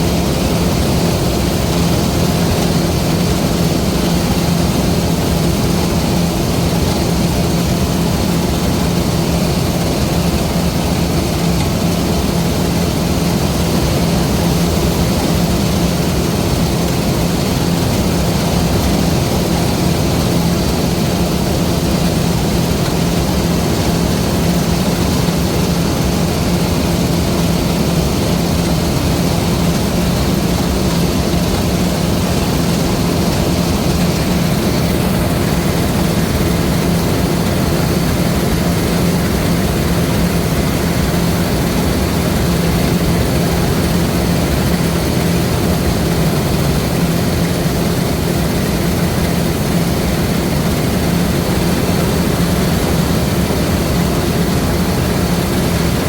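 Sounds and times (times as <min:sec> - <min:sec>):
combine harvester engine hum: 0:00.0 - 0:56.0
rushing mechanical noise: 0:00.0 - 0:56.0.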